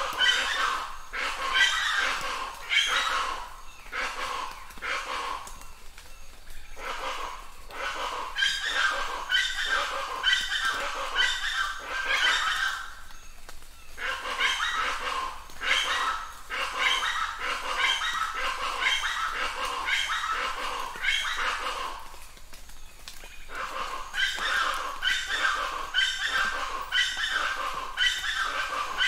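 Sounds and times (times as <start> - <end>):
repeated animal calls: 0.0 - 29.0.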